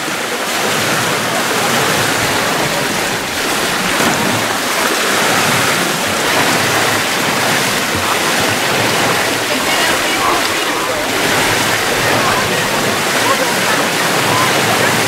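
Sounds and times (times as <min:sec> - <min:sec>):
water splashing in swimming pool: 0:00.0 - 0:15.0.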